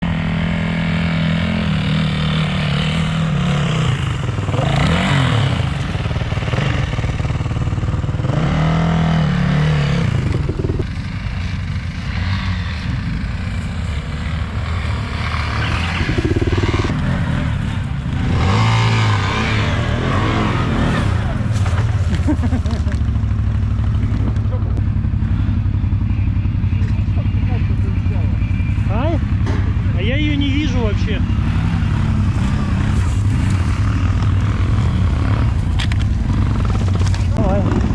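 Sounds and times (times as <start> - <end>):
vehicle engine revving: 0.0 - 25.6, 30.4 - 37.9.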